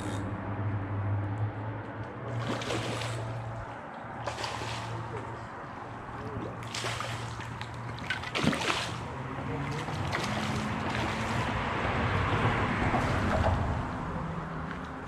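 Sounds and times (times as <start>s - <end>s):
boat engine humming: 0.0s - 15.0s
rushing water and wind: 2.3s - 15.0s.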